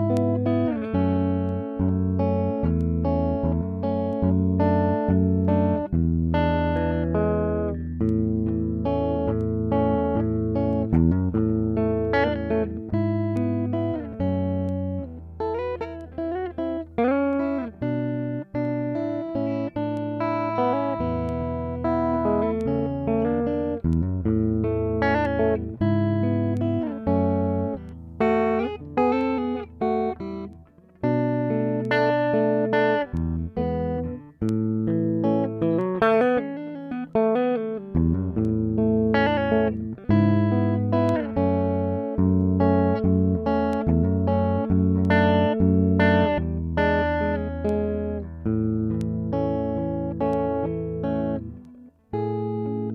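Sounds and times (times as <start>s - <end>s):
electric guitar playing: 0.0s - 52.9s.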